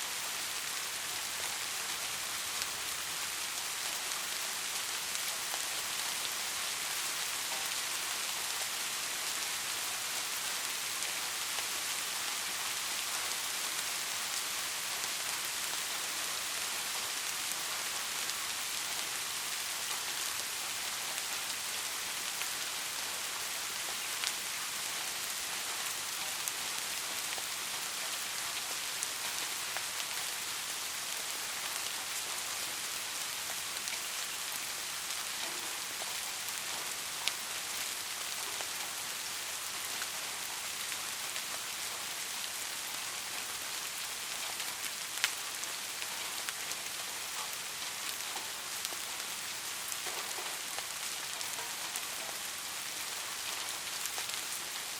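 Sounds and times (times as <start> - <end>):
rain falling on a surface: 0.0 - 54.9.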